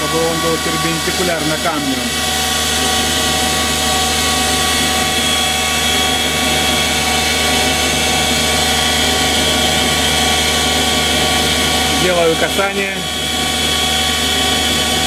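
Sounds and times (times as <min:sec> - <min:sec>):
valve refacing machine whining: 0:00.0 - 0:15.0.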